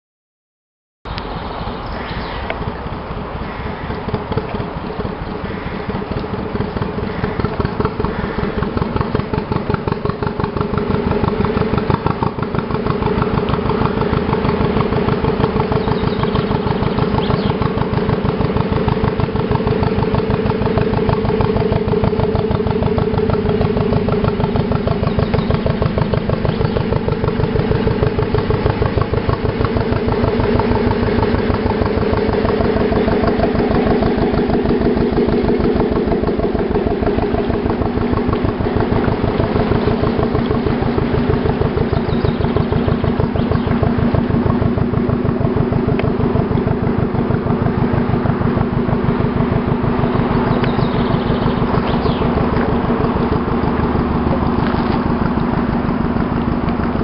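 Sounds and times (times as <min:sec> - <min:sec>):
boat engine steady beat: 0:01.1 - 0:57.0.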